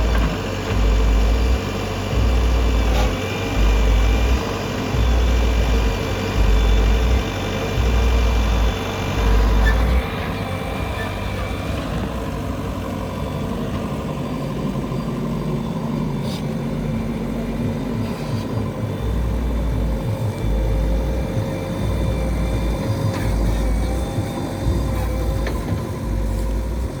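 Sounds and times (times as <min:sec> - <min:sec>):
diesel engine running: 0:00.0 - 0:27.0
low engine rumbling under load: 0:00.0 - 0:27.0.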